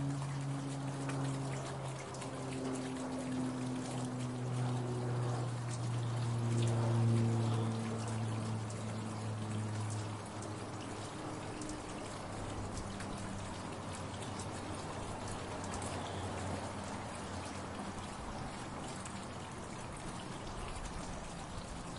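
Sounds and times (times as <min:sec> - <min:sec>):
fountain splashing and trickling: 0:00.0 - 0:21.9
low hum: 0:00.0 - 0:21.9.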